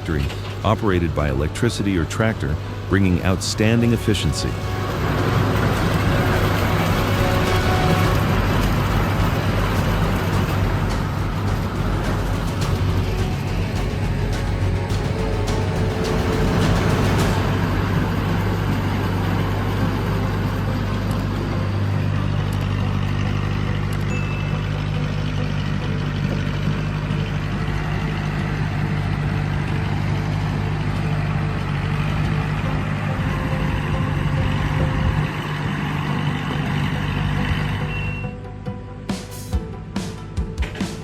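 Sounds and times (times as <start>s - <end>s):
heavy diesel engine droning: 0.0s - 39.0s.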